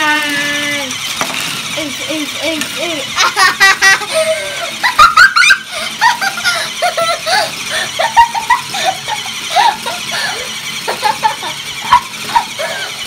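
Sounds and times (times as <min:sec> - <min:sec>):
children laughing and giggling: 0:01.8 - 0:13.0.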